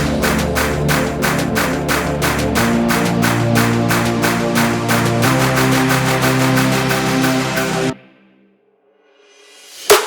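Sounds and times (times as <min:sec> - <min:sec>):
synth music with steady beat: 0:00.0 - 0:08.4.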